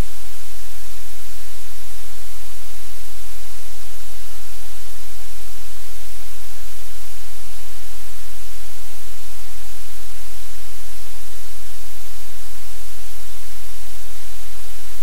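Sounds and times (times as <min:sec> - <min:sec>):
steady static hiss: 0:00.0 - 0:15.0.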